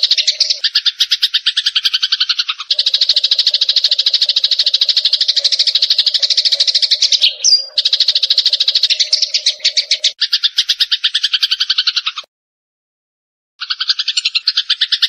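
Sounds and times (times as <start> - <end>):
sparrow chattering trill: 0.0 - 12.3, 13.6 - 15.0.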